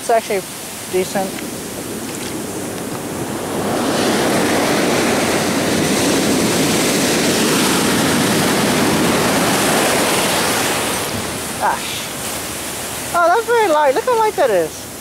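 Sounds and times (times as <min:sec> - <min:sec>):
ocean wave breaking: 0:00.0 - 0:15.0
surf washing in: 0:00.0 - 0:15.0.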